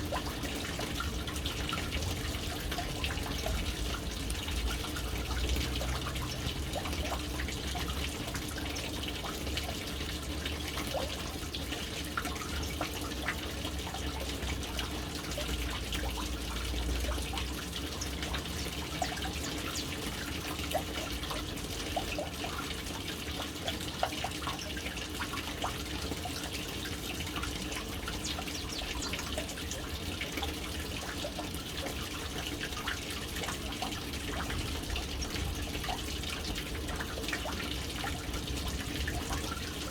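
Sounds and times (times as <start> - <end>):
water dripping: 0.0 - 39.9
water splashing into tank: 0.0 - 39.9.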